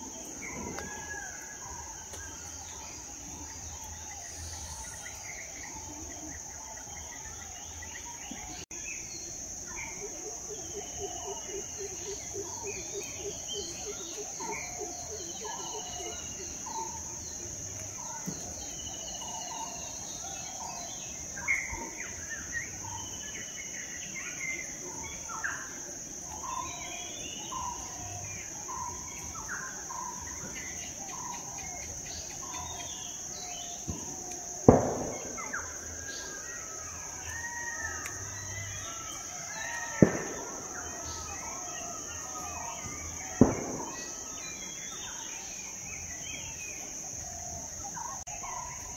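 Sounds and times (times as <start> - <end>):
high insect drone: 0.0 - 48.9.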